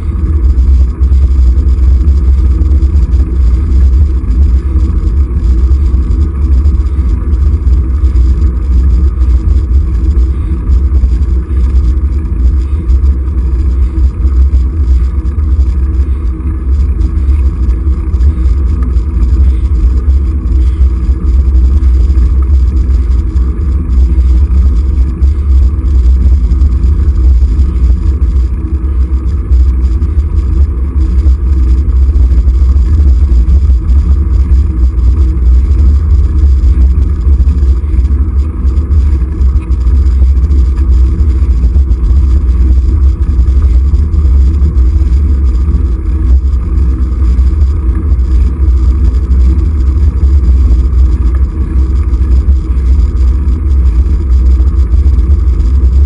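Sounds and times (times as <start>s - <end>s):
wind and road noise rumble: 0.0s - 56.0s.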